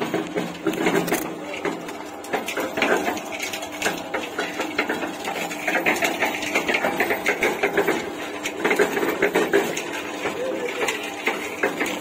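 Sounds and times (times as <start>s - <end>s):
concrete mixer running: 0.0s - 12.0s
wet concrete churning clatter: 0.0s - 12.0s.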